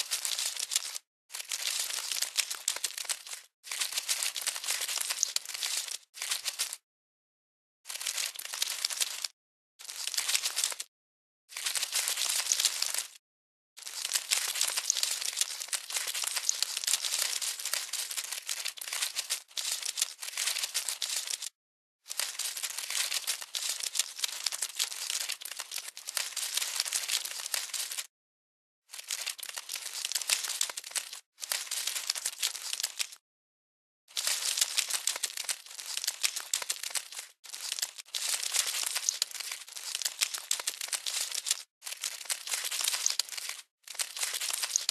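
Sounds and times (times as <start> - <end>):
crackly rustling crinkling: 0.0 - 6.8, 7.9 - 10.9, 11.6 - 13.2, 13.8 - 28.1, 28.9 - 33.2, 34.1 - 44.9.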